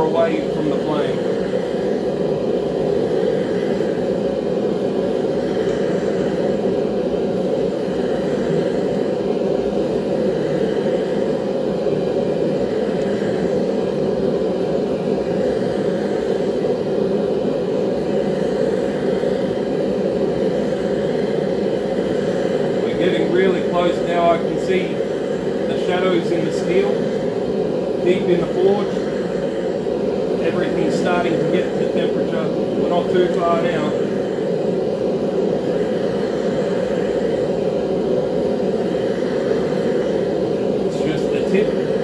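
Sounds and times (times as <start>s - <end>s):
forge burner flame rushing: 0.0s - 42.0s.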